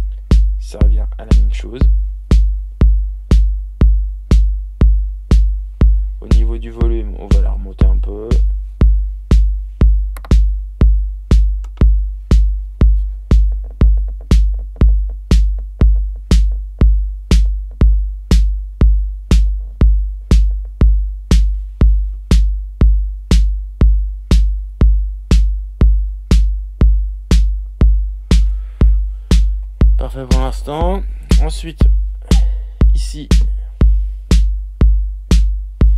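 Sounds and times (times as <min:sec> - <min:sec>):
kick drum: 0:00.0 - 0:35.9.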